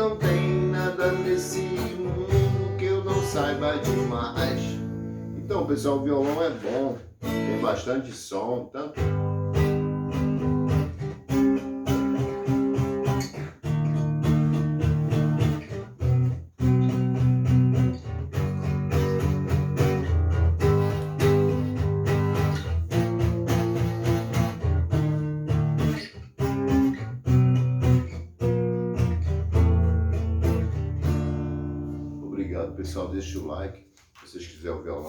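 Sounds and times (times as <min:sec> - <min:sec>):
acoustic guitar strumming chords: 0:00.0 - 0:08.0, 0:09.0 - 0:33.7.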